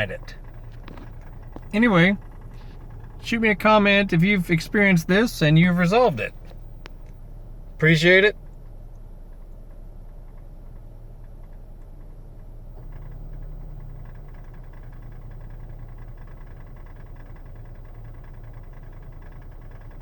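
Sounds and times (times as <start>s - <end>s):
car engine idling: 0.0s - 20.0s
faint rapid ticking: 0.0s - 20.0s.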